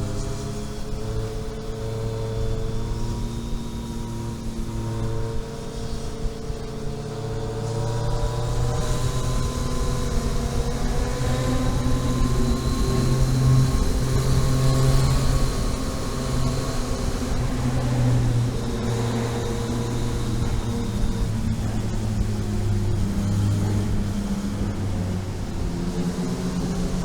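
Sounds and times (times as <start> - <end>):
vehicle engine running under load: 0.0 - 27.0.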